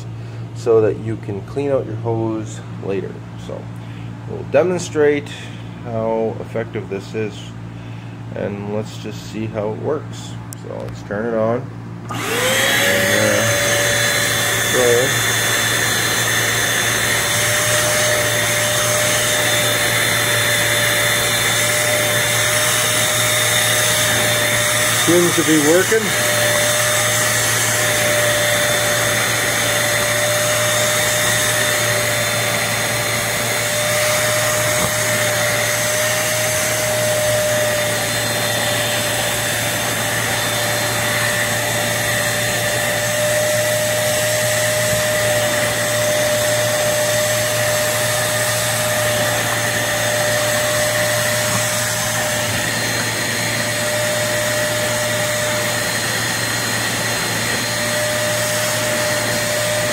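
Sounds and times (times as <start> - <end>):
spot cleaner motor whine: 11.9 - 59.9.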